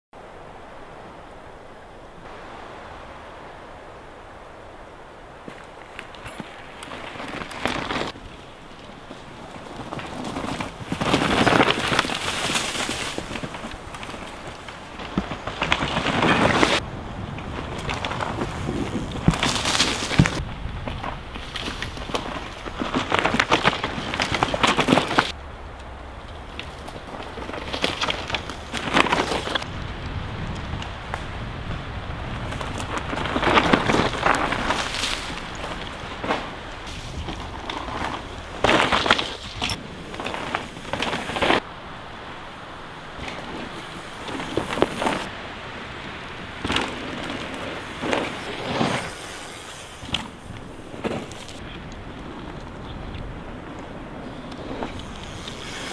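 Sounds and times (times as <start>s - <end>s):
trail noise hiss: 0.2s - 55.9s
bike tyres crunching on dirt: 0.8s - 55.9s.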